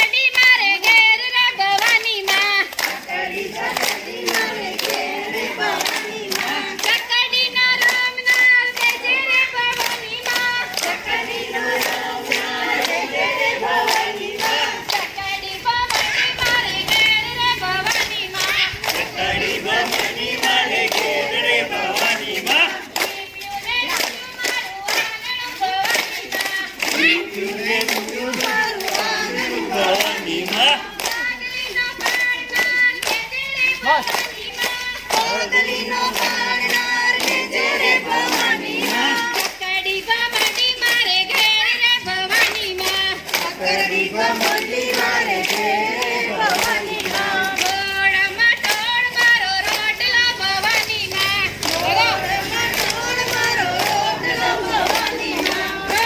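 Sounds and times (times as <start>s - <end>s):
group singing: 0.0s - 56.0s
rhythmic hand claps: 0.0s - 56.0s.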